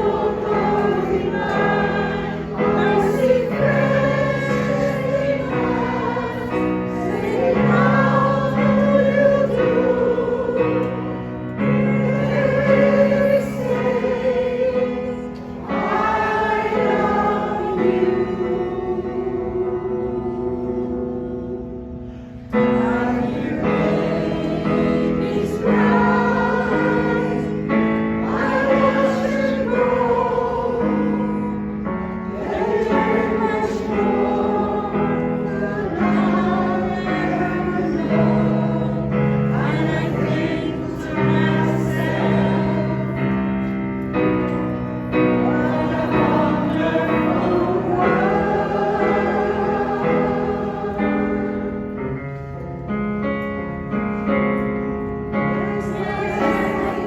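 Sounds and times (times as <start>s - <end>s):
choir singing: 0.0s - 52.7s, 55.4s - 57.0s
keyboard accompaniment: 0.0s - 57.0s.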